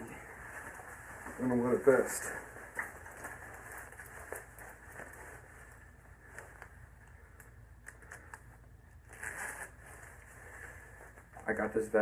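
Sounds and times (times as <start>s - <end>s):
fabric rustling: 0.0s - 12.0s
steady low hum: 0.0s - 12.0s.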